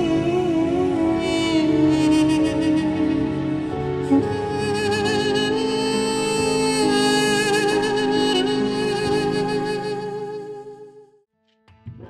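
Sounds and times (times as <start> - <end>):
slow orchestral film score: 0.0 - 10.9.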